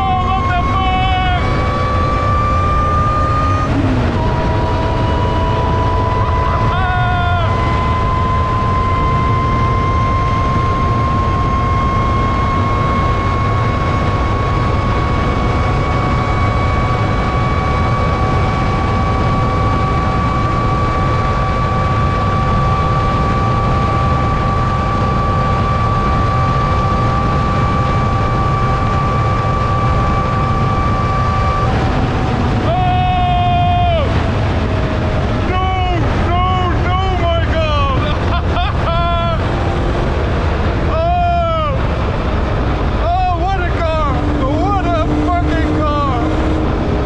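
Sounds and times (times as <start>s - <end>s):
car engine whine: 0.0s - 47.0s
wind and road rush: 0.0s - 47.0s.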